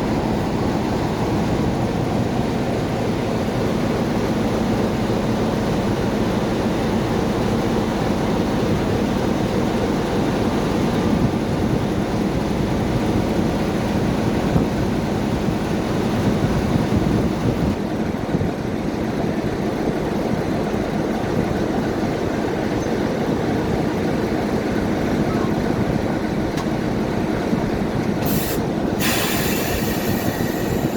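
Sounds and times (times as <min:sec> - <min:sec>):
steam train rumbling on rails: 0:00.0 - 0:30.9.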